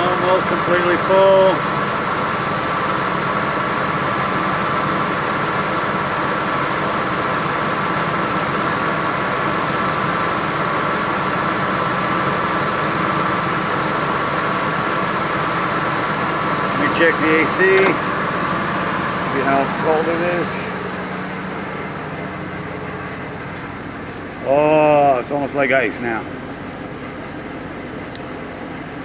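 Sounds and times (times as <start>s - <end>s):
air conditioning fan: 0.0s - 29.0s
car engine idling: 0.0s - 29.0s.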